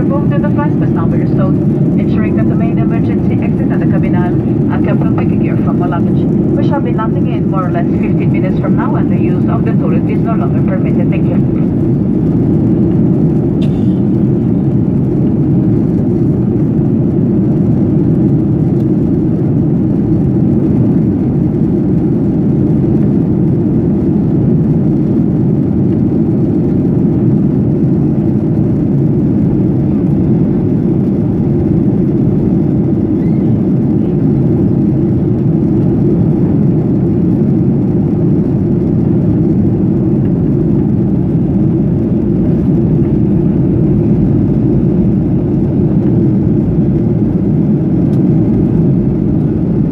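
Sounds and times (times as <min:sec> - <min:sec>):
air rushing along fuselage: 0:00.0 - 0:49.9
jet engines droning: 0:00.0 - 0:49.9.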